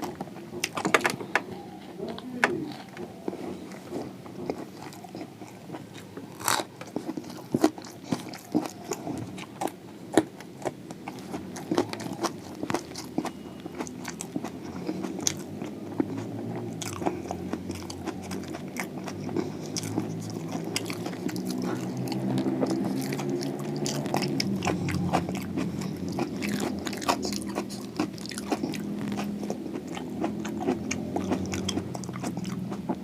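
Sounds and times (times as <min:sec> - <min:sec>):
person chewing crunchy food: 0:00.0 - 0:33.0.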